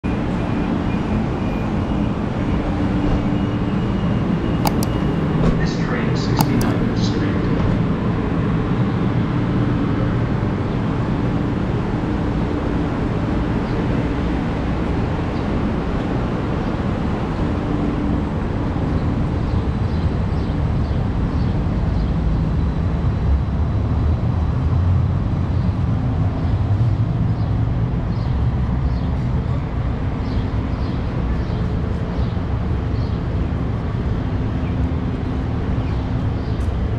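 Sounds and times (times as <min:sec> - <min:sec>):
street traffic rumble: 0:00.0 - 0:36.9.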